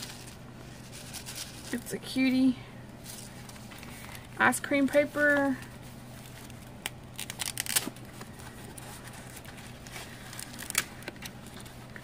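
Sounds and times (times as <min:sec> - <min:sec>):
paper crinkling and rustling: 0:00.0 - 0:02.1, 0:03.0 - 0:12.0.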